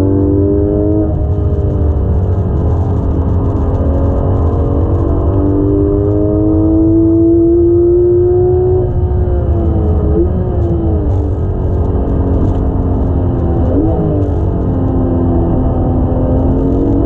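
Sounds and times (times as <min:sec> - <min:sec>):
car engine accelerating: 0:00.0 - 0:17.0
tyre and road rumble: 0:00.0 - 0:17.0.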